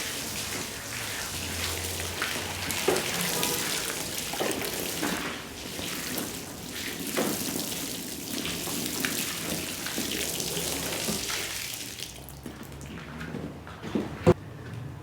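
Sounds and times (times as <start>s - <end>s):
water running and splashing: 0.0s - 13.2s.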